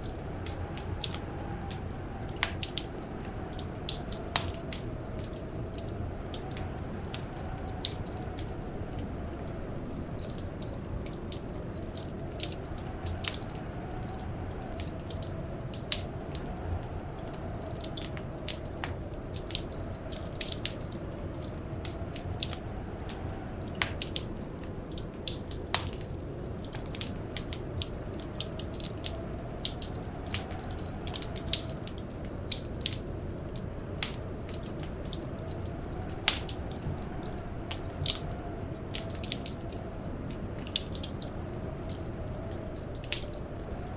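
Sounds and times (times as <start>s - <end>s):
soft wind howl: 0.0s - 43.9s
wood fire crackling and popping: 0.0s - 43.9s.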